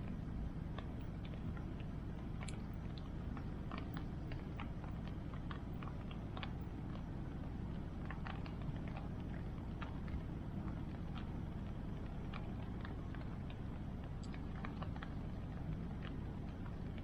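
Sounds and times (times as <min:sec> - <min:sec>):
bonfire crackling and popping: 0:00.1 - 0:17.0.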